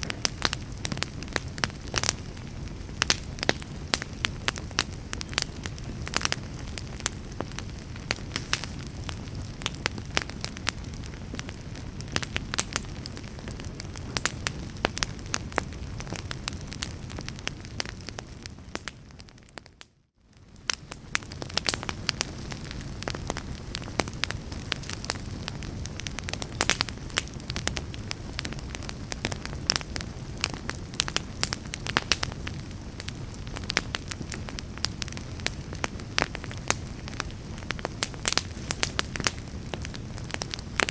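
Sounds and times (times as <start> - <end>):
fire crackling and popping: 0.0 - 40.9
fire flames rumbling: 0.0 - 40.9.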